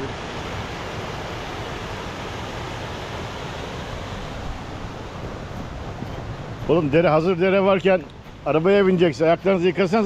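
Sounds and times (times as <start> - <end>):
wind rumbling on microphone: 0.0 - 9.8
stream rushing: 0.0 - 10.0.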